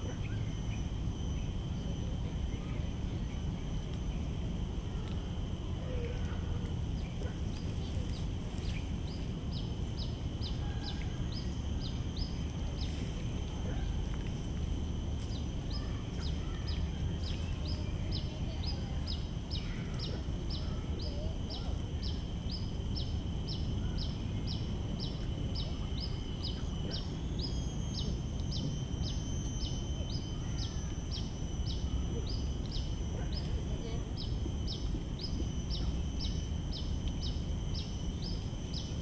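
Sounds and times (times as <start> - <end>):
low background rumble: 0.0 - 39.0
steady high drone: 0.0 - 39.0.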